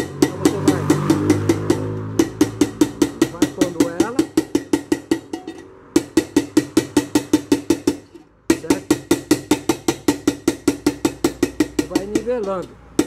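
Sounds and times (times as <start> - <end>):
hammer tapping metal rim: 0.0 - 13.0.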